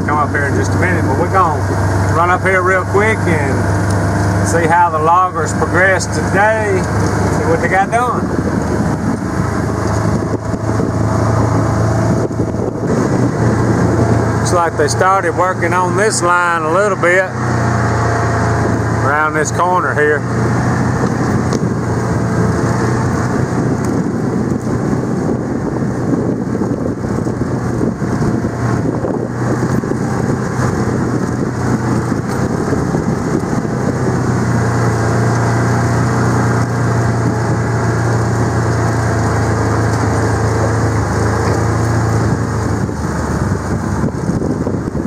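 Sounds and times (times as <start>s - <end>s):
vehicle engine running: 0.0s - 45.0s
vehicle rattling on dirt track: 0.0s - 45.0s.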